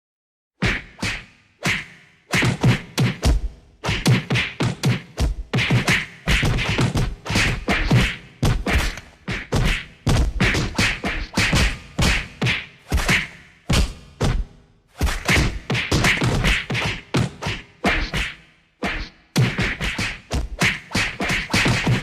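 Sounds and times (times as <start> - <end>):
percussive thumps and snaps: 0.6 - 22.0.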